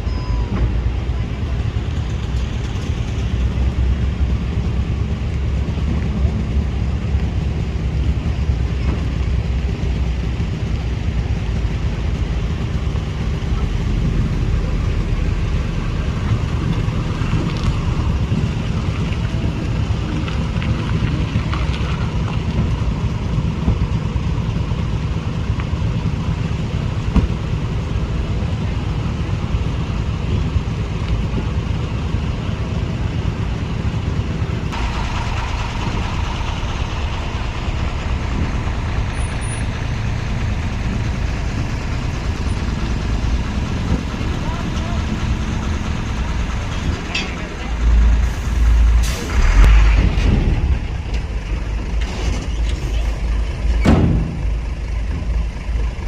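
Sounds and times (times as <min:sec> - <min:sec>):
engine rumbling: 0:00.0 - 0:56.0.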